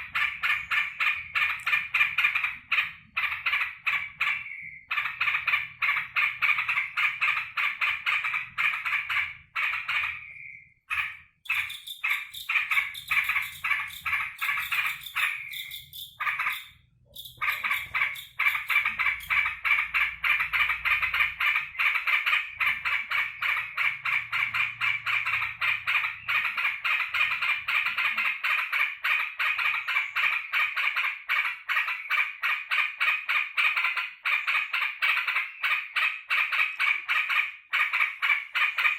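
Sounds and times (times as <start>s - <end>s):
bird chattering: 0.0s - 38.9s.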